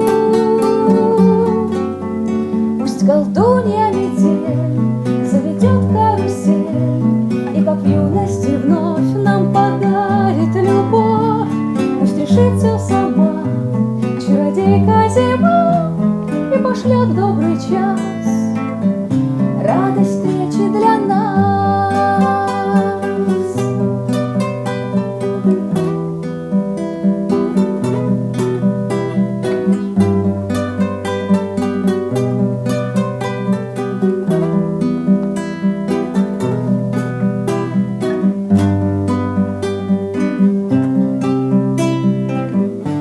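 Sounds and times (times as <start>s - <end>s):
acoustic guitar: 0.0s - 43.0s.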